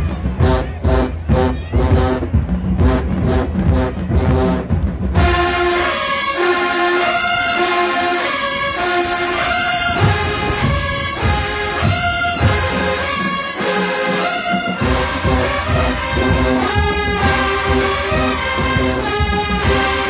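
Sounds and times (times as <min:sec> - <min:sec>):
low drum beats: 0:00.0 - 0:06.5, 0:08.5 - 0:20.0
brass band sustained chords: 0:00.0 - 0:20.0.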